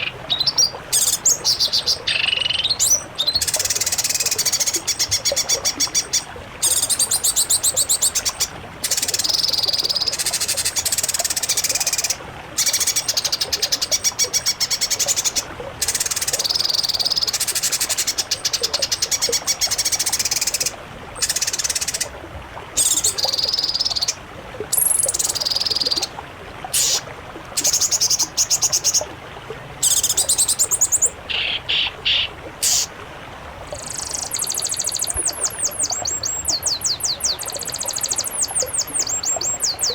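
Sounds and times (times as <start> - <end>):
songbird trilling: 0.0 - 22.1, 22.8 - 26.1, 26.8 - 27.0, 29.8 - 32.9, 33.7 - 39.9.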